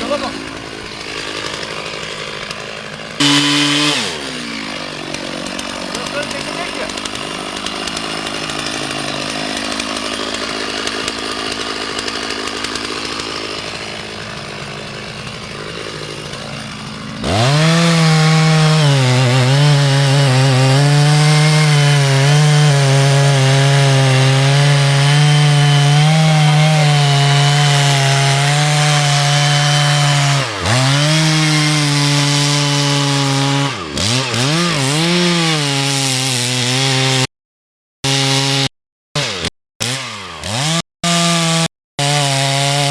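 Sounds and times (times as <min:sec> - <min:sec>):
chainsaw cutting wood: 0:00.0 - 0:37.3, 0:38.0 - 0:42.9.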